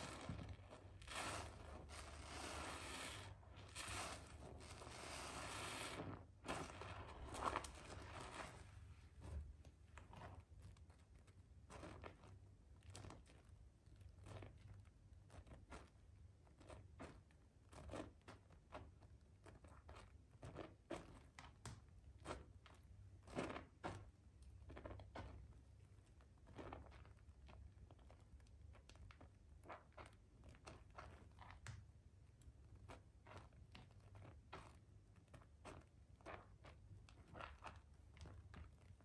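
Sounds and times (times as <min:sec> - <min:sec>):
wet soap squishing: 0:00.0 - 0:39.0.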